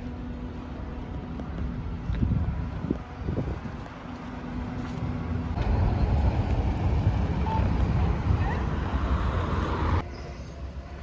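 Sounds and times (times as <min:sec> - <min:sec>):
passing vehicle rumble: 0:00.0 - 0:11.0.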